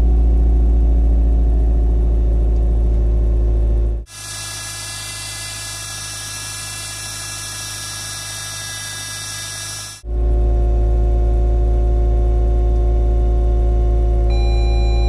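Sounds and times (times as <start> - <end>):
car engine hum and whine: 0.0 - 15.0
loud low rumble with whining tones: 0.0 - 15.0.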